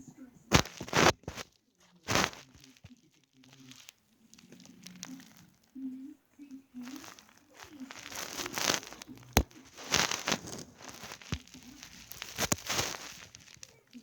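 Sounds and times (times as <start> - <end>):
plastic packaging crinkling: 0.5 - 14.0.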